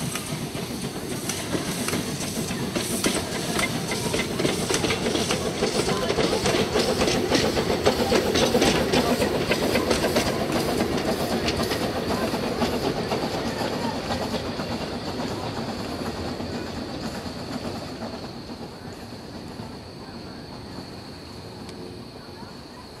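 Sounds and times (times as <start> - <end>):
steam locomotive exhaust beating: 0.0 - 22.8.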